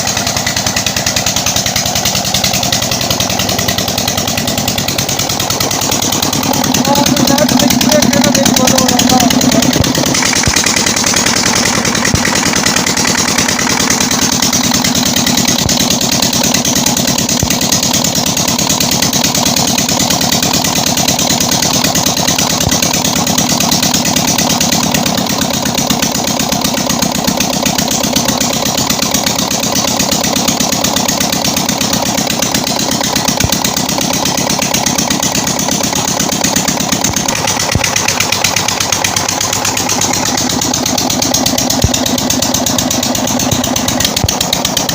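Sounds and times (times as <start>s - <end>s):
diesel engine knocking steadily: 0.0s - 44.9s.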